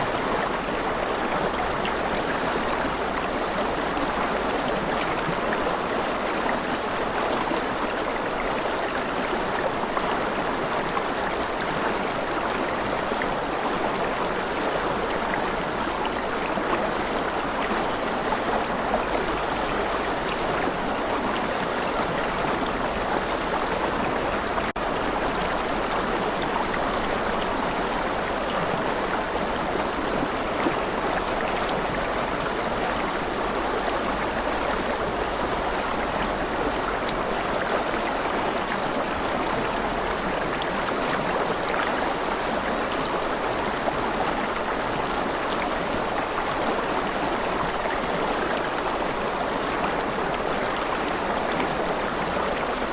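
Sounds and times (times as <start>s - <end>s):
rushing river water: 0.0s - 52.9s.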